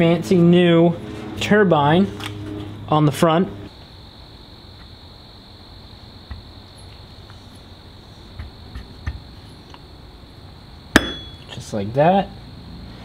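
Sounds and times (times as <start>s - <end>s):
steady high-pitched whine: 0.0s - 13.0s.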